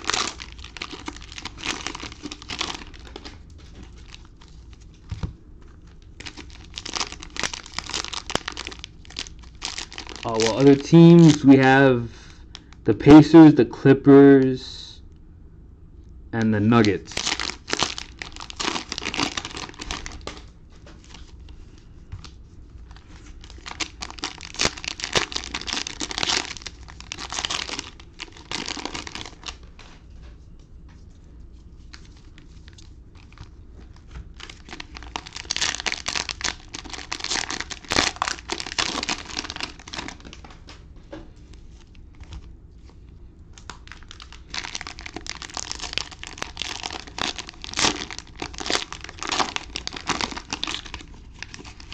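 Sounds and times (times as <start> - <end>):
cellophane crinkling and tearing: 0.0 - 12.8, 16.6 - 30.1, 31.0 - 51.9.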